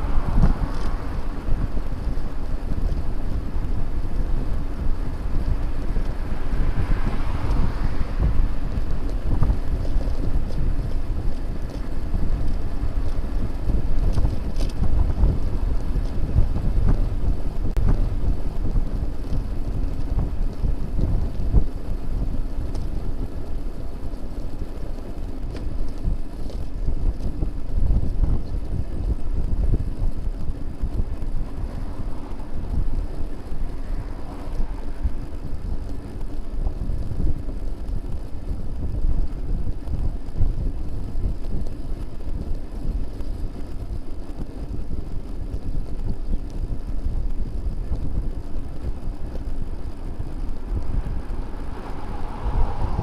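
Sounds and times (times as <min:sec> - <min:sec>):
road and traffic noise: 0:00.0 - 0:53.0
wind buffeting microphone: 0:00.0 - 0:53.0.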